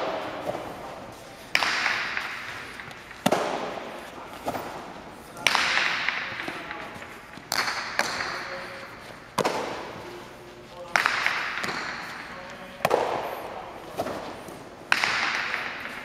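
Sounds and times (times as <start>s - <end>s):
ball smacking off walls with echo: 0.0s - 8.7s, 9.4s - 10.0s, 10.8s - 16.0s.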